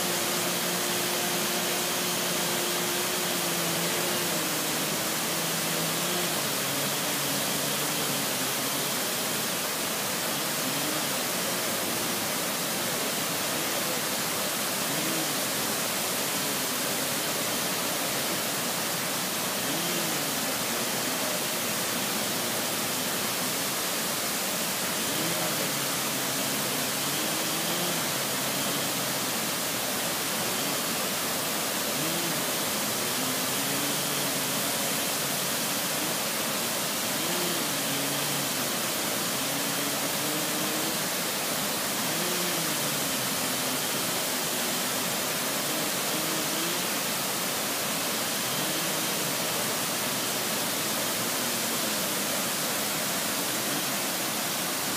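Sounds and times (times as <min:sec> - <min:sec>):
waterfall roaring: 0:00.0 - 0:54.9.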